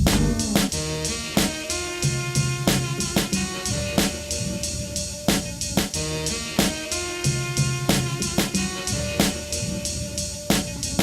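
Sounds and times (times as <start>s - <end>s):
drum kit beat: 0.0s - 11.0s.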